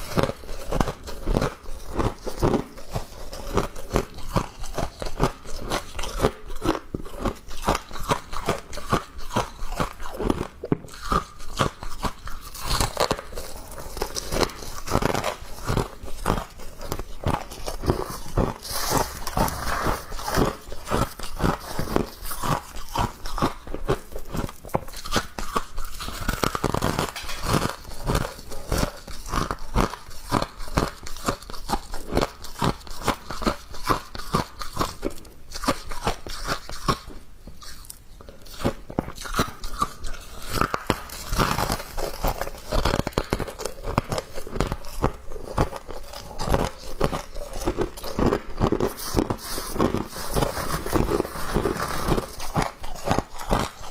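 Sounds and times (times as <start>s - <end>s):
person crunching ice: 0.0s - 37.0s, 38.5s - 53.9s.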